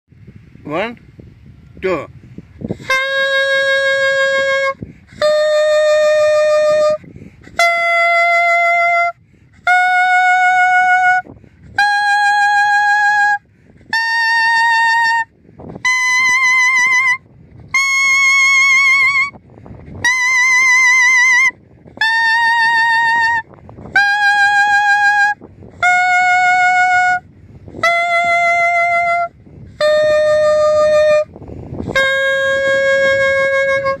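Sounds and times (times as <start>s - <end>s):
clarinet playing a scale: 2.7s - 19.4s, 20.0s - 34.0s.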